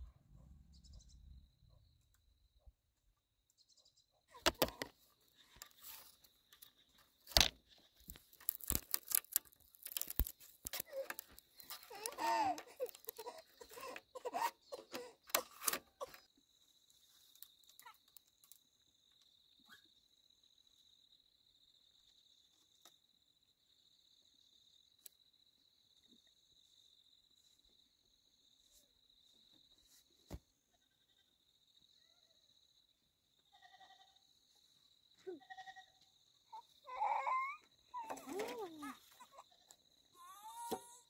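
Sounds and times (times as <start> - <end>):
crickets trilling: 4.4 - 29.8, 30.7 - 41.0.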